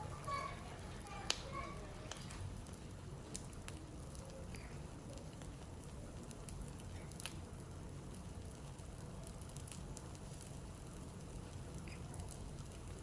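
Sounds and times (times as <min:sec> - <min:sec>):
omelette sizzling in a pan: 0:00.0 - 0:13.0.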